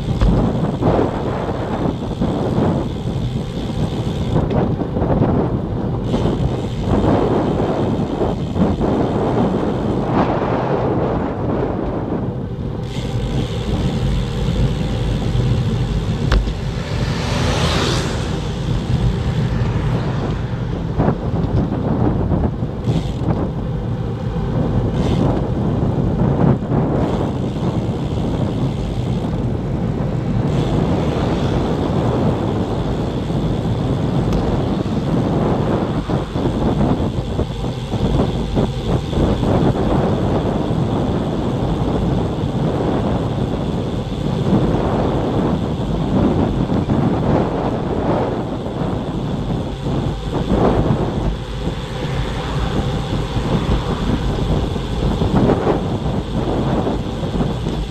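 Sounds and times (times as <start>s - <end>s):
wind rumbling on microphone: 0.0s - 57.9s.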